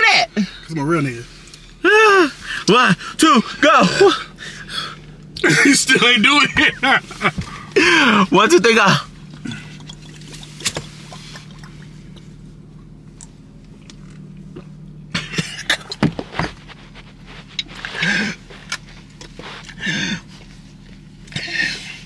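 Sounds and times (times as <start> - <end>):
car cabin engine hum: 0.0 - 22.0.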